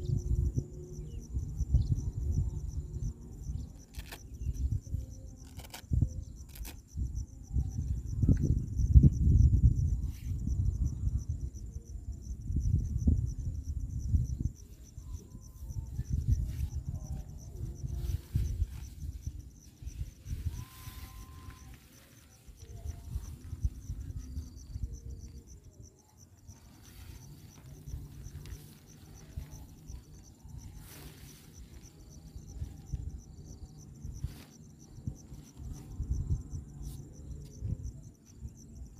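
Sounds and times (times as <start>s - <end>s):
insects trilling: 0.0s - 38.9s
wind on microphone: 0.0s - 38.9s.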